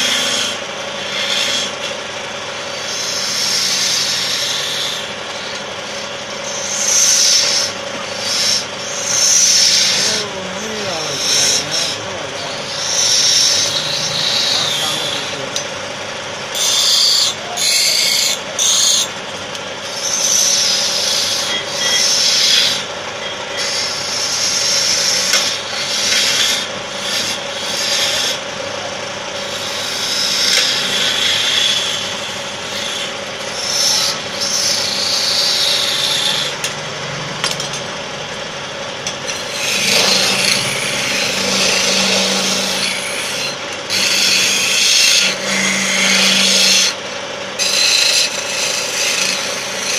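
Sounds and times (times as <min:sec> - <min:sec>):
chisel scraping spinning wood: 0:00.0 - 0:15.8, 0:19.8 - 0:28.4, 0:29.3 - 0:36.7, 0:39.0 - 0:49.9
lathe motor hum: 0:00.0 - 0:49.9.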